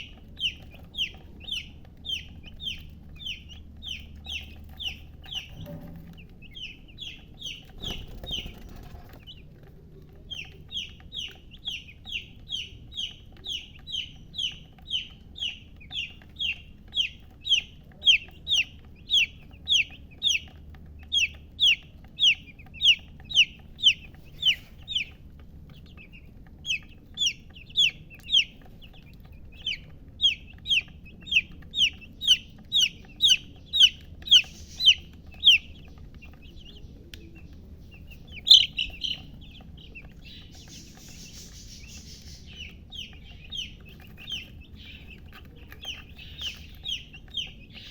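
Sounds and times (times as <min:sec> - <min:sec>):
baby chick peeping: 0:00.0 - 0:47.9.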